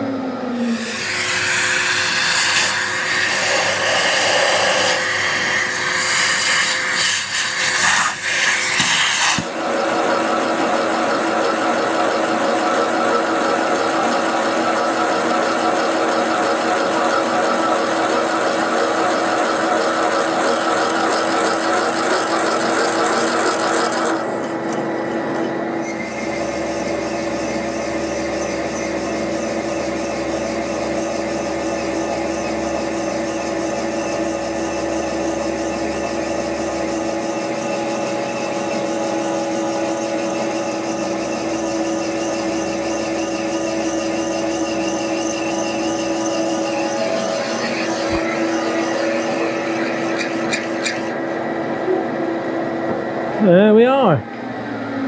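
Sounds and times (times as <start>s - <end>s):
milling machine running: 0.0s - 55.0s
drill cutting steel: 0.6s - 25.1s, 25.8s - 51.4s.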